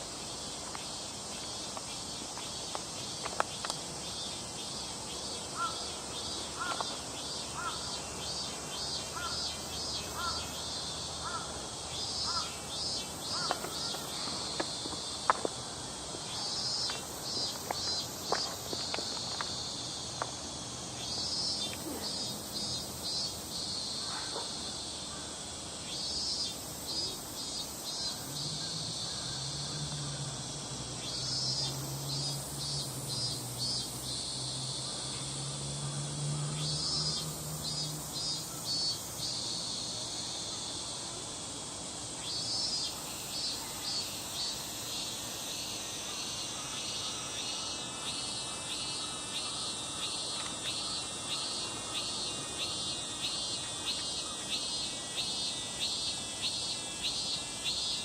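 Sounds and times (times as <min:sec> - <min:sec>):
crickets chirping: 0:00.0 - 0:58.0
high insect drone: 0:00.0 - 0:58.0.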